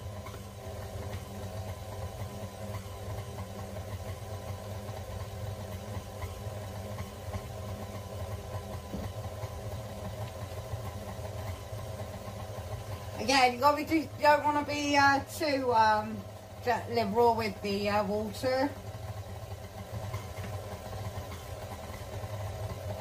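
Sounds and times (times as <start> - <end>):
stand mixer motor running: 0.0 - 23.0.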